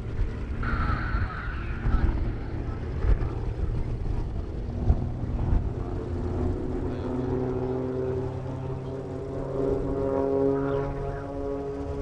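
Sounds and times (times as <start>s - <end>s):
distant biplane engines droning: 0.0s - 12.0s
wind buffeting microphone: 0.0s - 12.0s.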